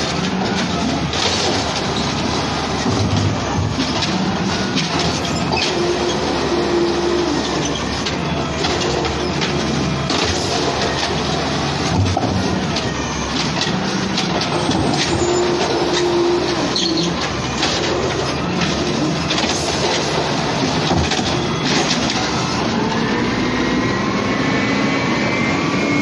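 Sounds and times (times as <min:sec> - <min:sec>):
knocks and clanks: 0:00.0 - 0:06.4, 0:07.6 - 0:22.5
garbage truck engine: 0:00.0 - 0:26.0.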